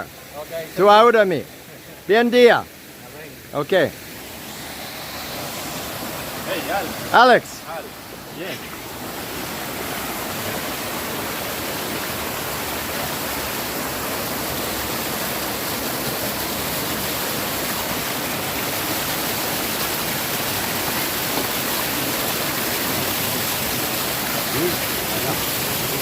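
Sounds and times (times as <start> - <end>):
waterfall pouring into pool: 0.0 - 26.0.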